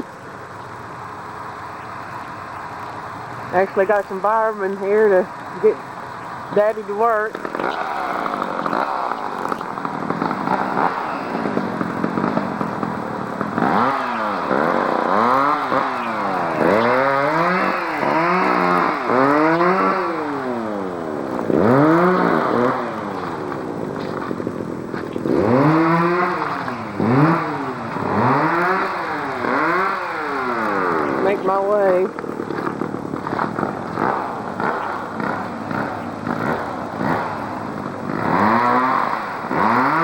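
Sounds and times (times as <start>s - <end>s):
engine revving: 0.8s - 40.0s.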